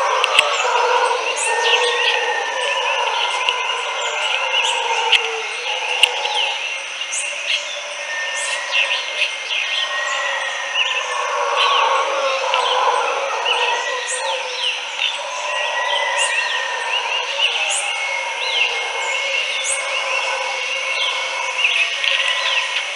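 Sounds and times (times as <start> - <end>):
birds chirping and calling: 0.0 - 22.9
howler monkeys howling: 0.0 - 22.9.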